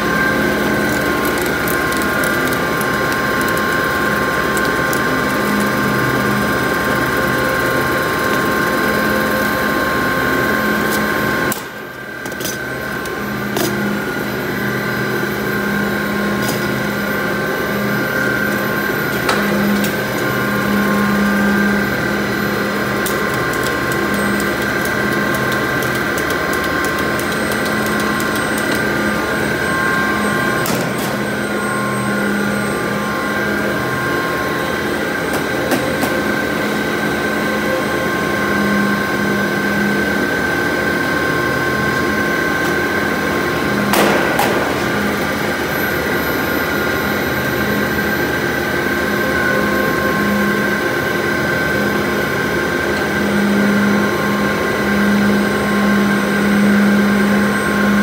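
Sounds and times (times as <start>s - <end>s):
machinery hum and whine: 0.0s - 58.0s.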